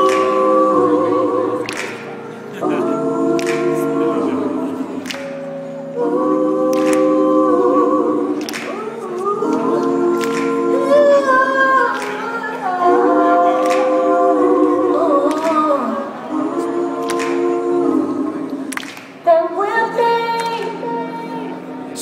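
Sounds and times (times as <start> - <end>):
voices singing in close harmony: 0.0 - 22.0.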